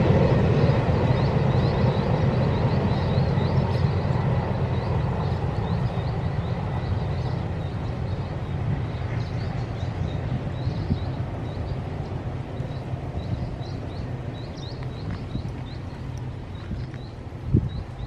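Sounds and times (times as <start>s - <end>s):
small birds chirping: 1.1s - 18.0s.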